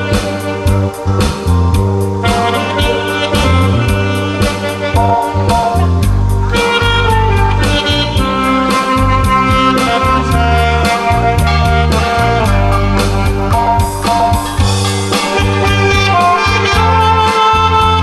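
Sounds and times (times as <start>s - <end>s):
bass line: 0.0s - 18.0s
saxophone melody: 0.0s - 18.0s
drum beat: 1.2s - 17.2s.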